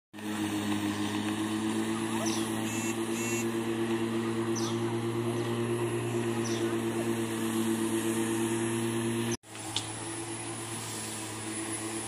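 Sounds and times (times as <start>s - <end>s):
electric lawn mower humming: 0.2s - 12.0s.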